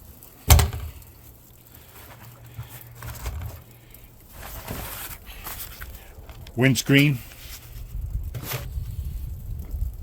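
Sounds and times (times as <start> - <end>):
rustling and crinkling of items: 0.0 - 10.0.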